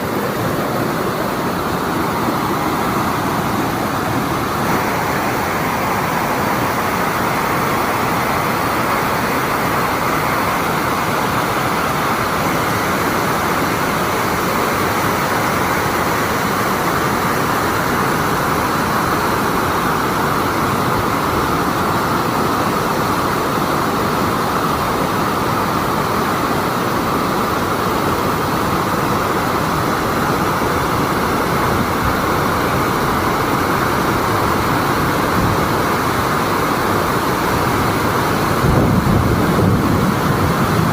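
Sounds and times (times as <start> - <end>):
waterfall rushing water: 0.0 - 40.9.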